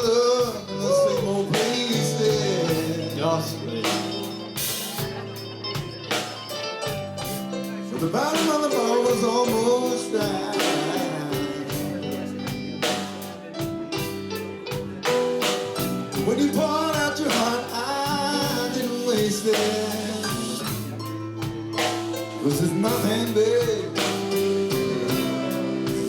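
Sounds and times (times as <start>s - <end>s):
bass: 0.0s - 26.0s
drums: 0.0s - 26.0s
guitar: 0.0s - 26.0s
person singing: 0.0s - 26.0s.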